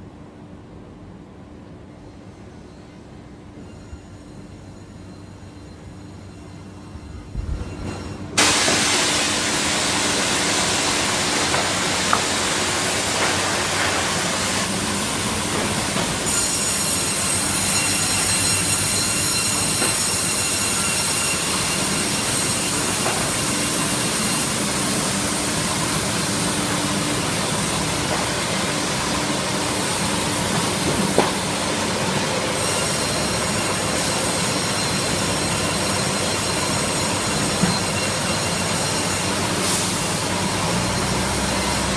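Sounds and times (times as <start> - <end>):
sawmill machine whine and hiss: 7.9 - 41.9.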